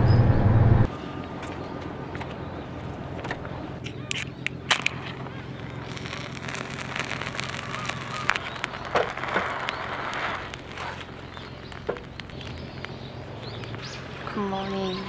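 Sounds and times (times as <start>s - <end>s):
wood fire crackling and popping: 1.4s - 15.0s.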